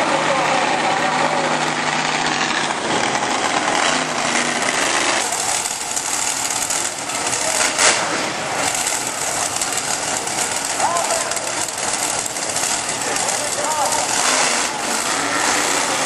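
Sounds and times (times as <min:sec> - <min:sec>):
racing engines rattling: 0:00.0 - 0:16.0.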